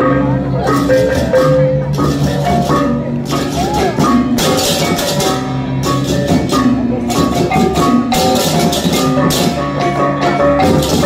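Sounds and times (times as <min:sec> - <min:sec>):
drums: 0:00.0 - 0:11.0.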